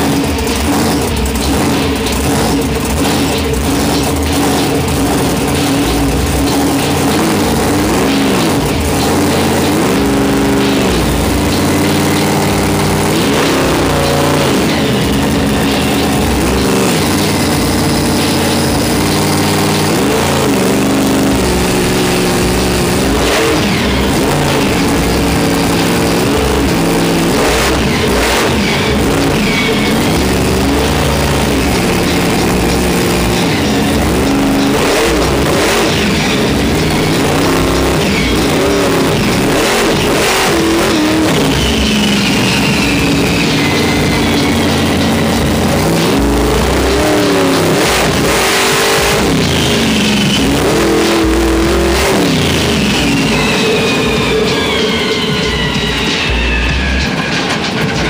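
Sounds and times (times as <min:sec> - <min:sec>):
monster truck engine revving: 0:00.0 - 0:58.0.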